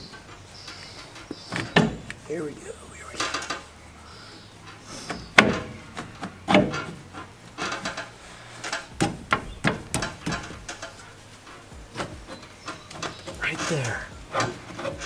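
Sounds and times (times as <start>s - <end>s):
metal clunks and scrapes: 0.0s - 2.3s, 3.1s - 15.0s.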